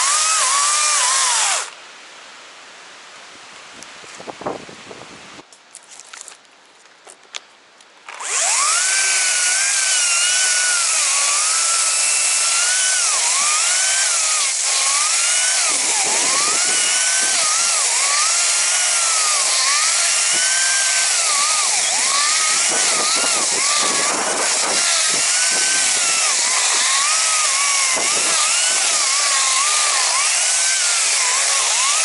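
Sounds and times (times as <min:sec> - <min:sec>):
chainsaw cutting tree trunk: 0:00.0 - 0:01.8, 0:08.1 - 0:32.0.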